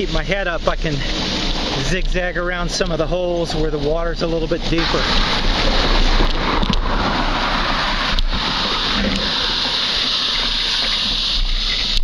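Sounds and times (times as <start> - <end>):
bike tyres splashing through water: 0.0 - 12.0.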